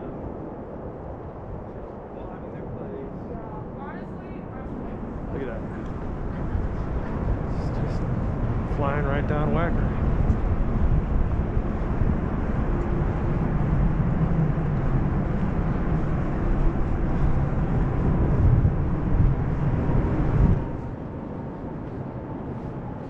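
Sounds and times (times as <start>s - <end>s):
airliner passing overhead: 0.0s - 23.0s.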